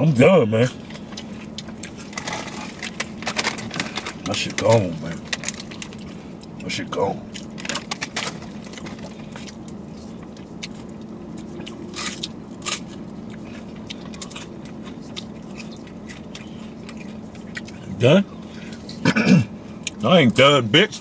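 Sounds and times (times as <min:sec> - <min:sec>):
low hum: 0:00.0 - 0:21.0
ice cream cone crunching: 0:00.6 - 0:21.0.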